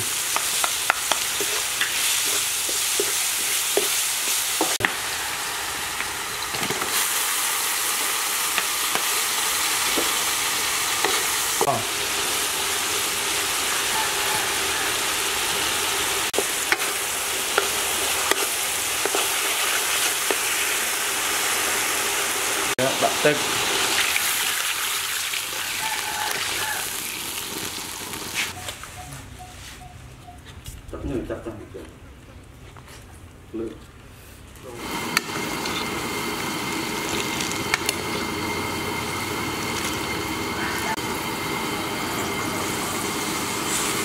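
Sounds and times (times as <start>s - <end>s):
food sizzling in hot oil: 0.0s - 28.6s, 34.7s - 44.0s.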